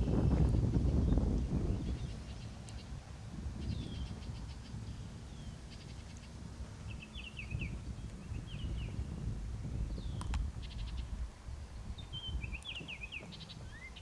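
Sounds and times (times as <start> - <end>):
birds chirping and trilling: 0.0 - 14.0
steady low rumble: 0.0 - 14.0.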